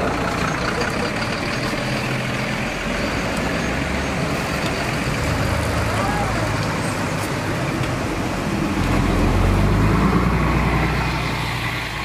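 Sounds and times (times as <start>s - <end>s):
street noise: 0.0s - 12.0s
vehicle engine rumbling: 0.0s - 12.0s.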